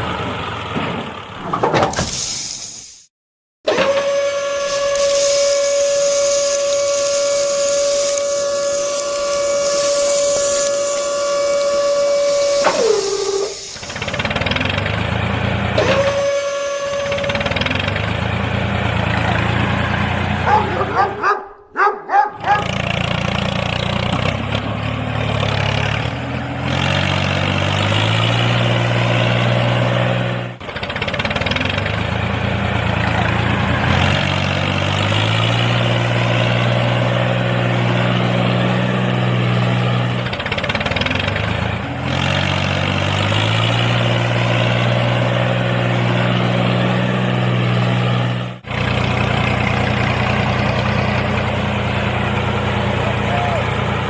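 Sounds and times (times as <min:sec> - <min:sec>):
tractor engine revving: 0:00.0 - 0:02.9, 0:04.6 - 0:21.3, 0:22.3 - 0:54.0.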